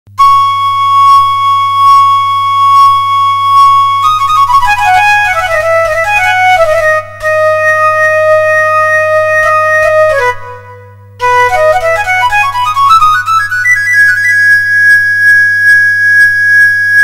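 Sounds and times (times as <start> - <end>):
solo wind instrument melody: 0.1 - 17.0.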